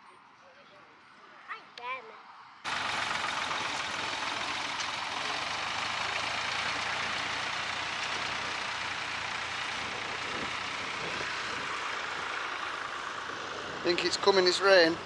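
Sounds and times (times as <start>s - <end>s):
tractor engine under load: 2.7s - 15.0s.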